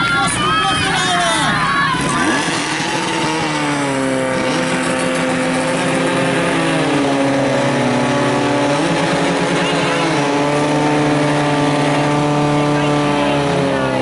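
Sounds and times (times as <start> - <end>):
small pump engine running: 1.9 - 14.0.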